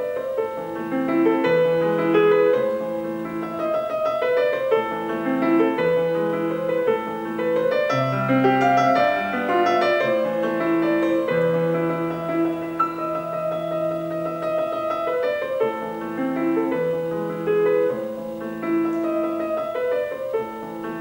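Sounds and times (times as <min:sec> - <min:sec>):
piano music through small speaker: 0:00.0 - 0:21.0.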